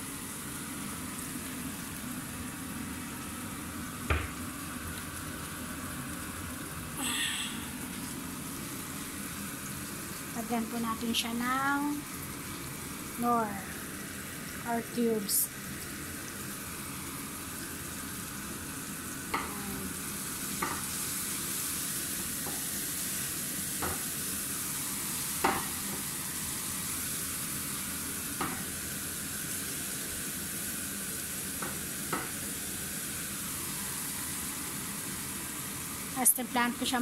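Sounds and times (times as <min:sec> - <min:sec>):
vegetables sizzling in a frying pan: 0:00.0 - 0:37.0.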